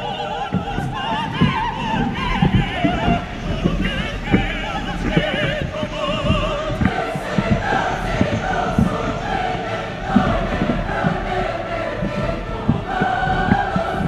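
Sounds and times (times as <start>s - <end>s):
operatic singing: 0.0s - 14.0s.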